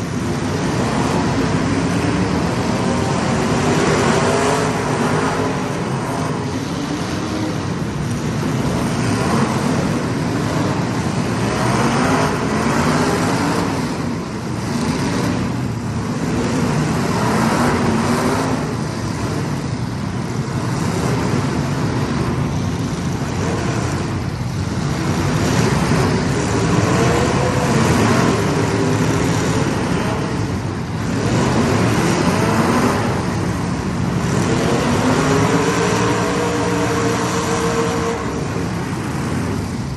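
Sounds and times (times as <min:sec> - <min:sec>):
small racing engines: 0:00.0 - 0:39.9.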